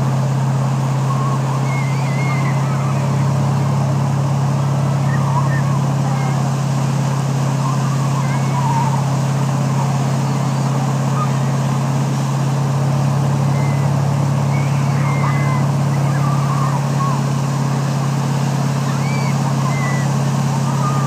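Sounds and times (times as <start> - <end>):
motorboat engine drone: 0.0 - 21.0
wake water rushing: 0.0 - 21.0
wind: 0.0 - 21.0
riders crying out: 0.9 - 21.0.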